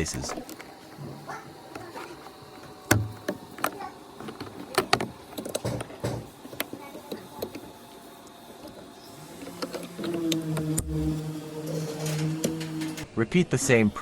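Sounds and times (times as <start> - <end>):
electrical connectors clicking: 0.0 - 13.1.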